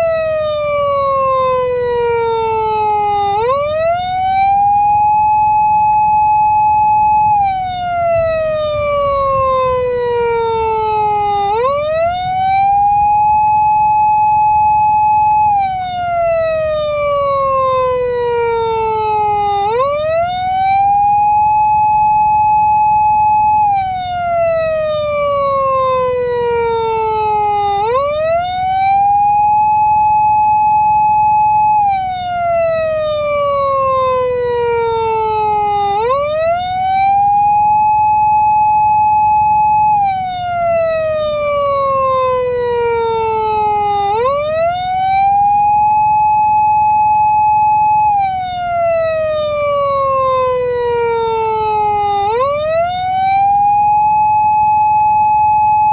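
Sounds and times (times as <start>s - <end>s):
police siren wailing: 0.0s - 55.9s.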